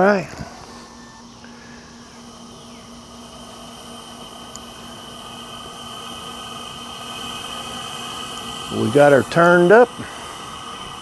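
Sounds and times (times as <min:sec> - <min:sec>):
gas burner hissing and whistling: 0:00.0 - 0:11.0.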